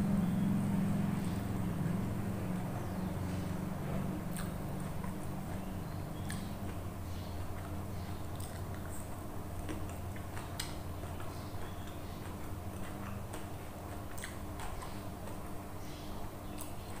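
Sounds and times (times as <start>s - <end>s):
steady low hum: 0.0s - 17.0s
wet chewing smacks: 3.3s - 17.0s.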